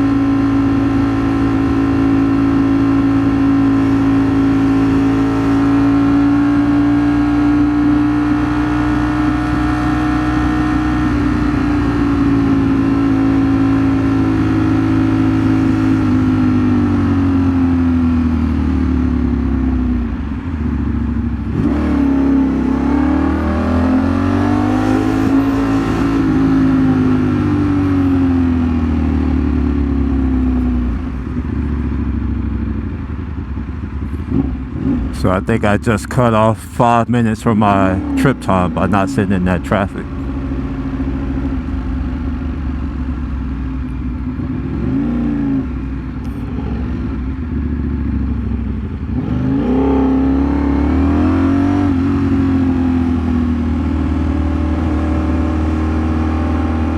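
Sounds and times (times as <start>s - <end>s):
motorcycle engine while riding: 0.0s - 35.2s, 40.0s - 56.9s.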